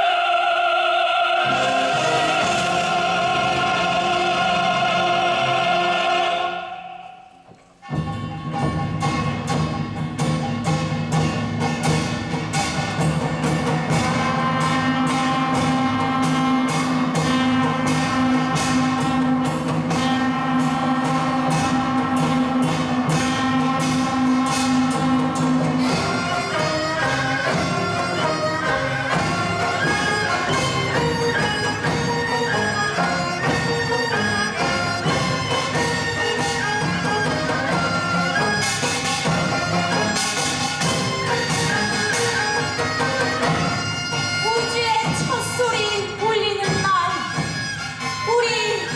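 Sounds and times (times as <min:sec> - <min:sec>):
military band music: 0:01.4 - 0:48.9.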